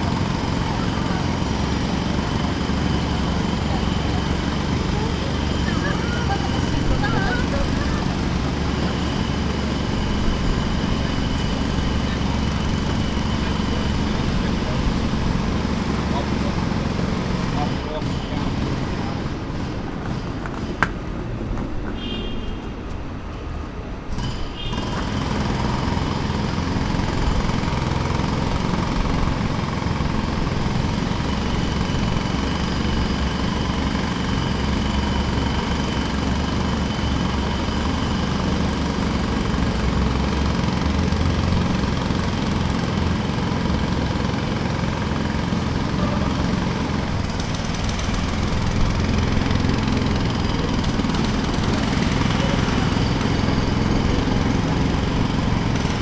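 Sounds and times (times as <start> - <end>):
jackhammer hammering: 0.0 - 21.1, 24.1 - 56.0.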